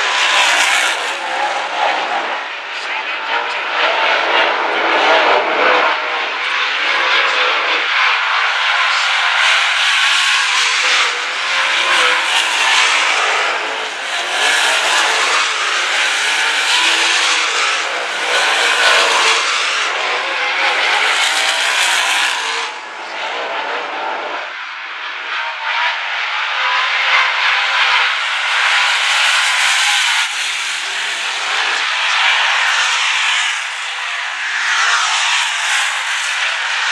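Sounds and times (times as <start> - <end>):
race car engines passing: 0.0 - 36.9.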